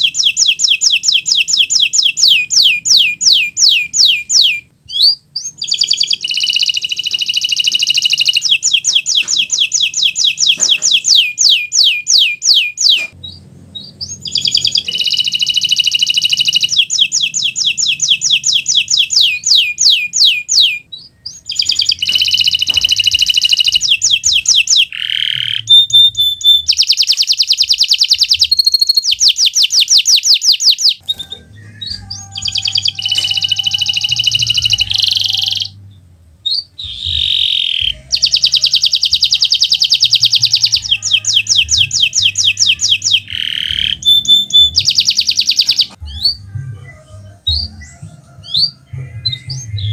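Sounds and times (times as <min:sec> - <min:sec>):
canary trilling: 0:00.0 - 0:49.9.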